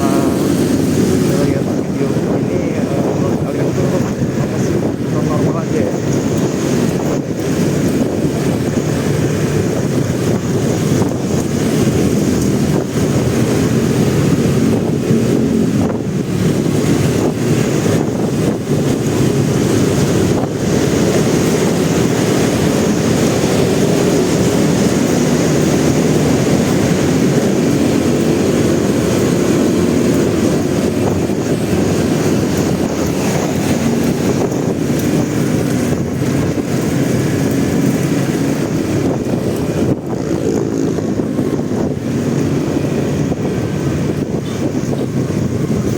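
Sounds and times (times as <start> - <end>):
motorcycle engine running: 0.0 - 45.9
wind rushing over microphone: 0.0 - 45.9.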